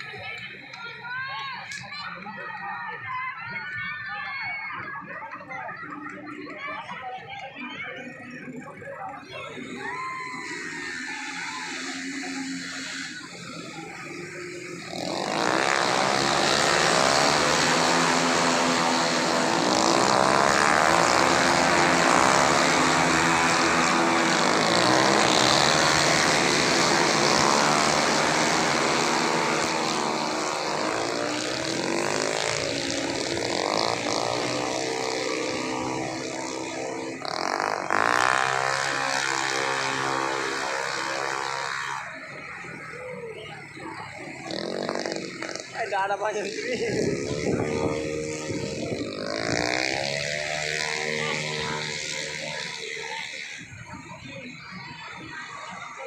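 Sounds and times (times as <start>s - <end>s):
scooter engines revving at high revs: 0.0s - 3.3s, 4.1s - 56.0s.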